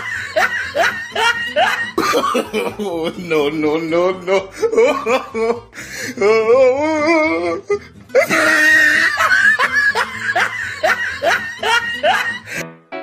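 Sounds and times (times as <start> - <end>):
person laughing: 0.0 - 12.6
background music: 0.0 - 13.0.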